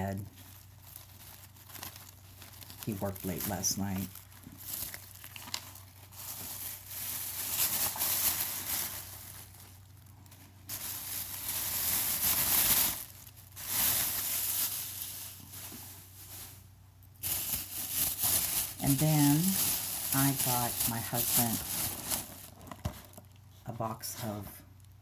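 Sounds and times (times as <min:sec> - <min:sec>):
plastic bag rustling: 0:00.0 - 0:23.4.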